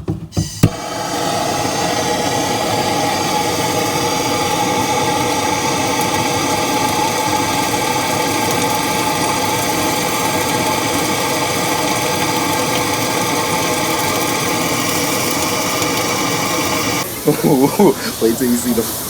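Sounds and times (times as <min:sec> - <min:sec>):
wet vac motor whining: 0:00.4 - 0:19.0.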